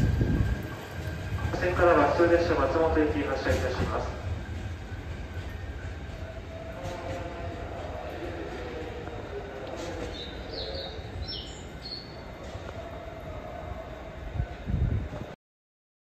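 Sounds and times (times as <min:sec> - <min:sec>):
electric train rumbling: 0:00.0 - 0:15.4.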